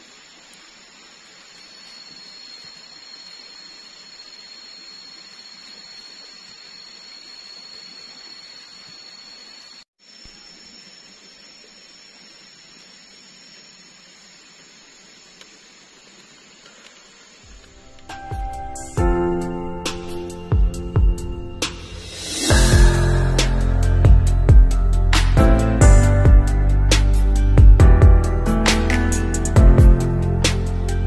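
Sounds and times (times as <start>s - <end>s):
high-pitched insect drone: 0.0s - 27.7s
background hiss: 0.0s - 31.0s.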